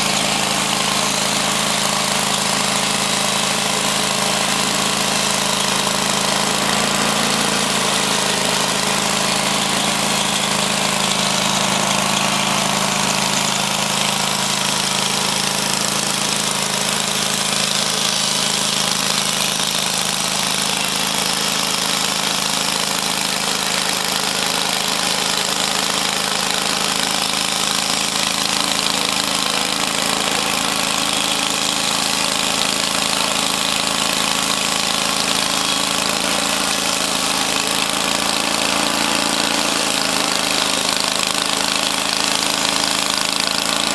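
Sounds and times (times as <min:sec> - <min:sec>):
sawmill engine hum: 0:00.0 - 0:43.9.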